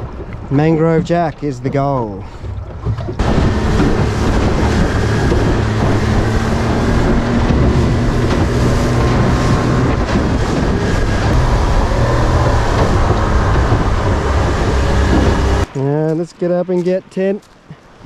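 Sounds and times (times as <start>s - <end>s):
outboard motor running: 0.0s - 16.1s
water rushing past hull: 0.0s - 18.0s
wind: 0.0s - 18.0s.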